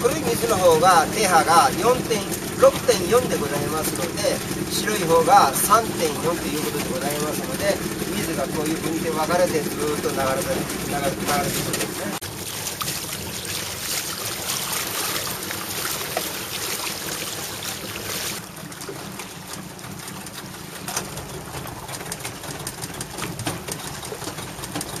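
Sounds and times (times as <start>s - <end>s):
river water rushing: 0.0s - 25.0s
water slapping against boat: 0.0s - 25.0s.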